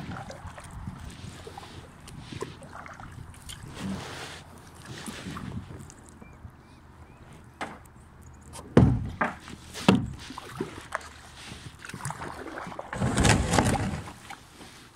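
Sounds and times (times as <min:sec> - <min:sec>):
paddle splashing in water: 0:00.0 - 0:06.4, 0:08.6 - 0:14.9.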